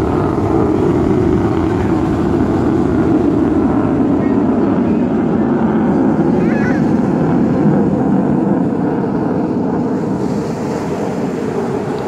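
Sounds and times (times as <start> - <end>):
jet passing with roar: 0.0 - 12.0.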